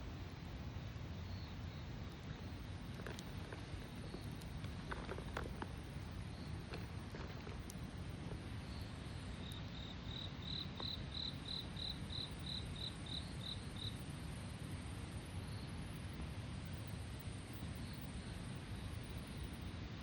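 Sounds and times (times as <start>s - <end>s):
cricket chirping: 0.0s - 20.0s
steady low background noise: 0.0s - 20.0s.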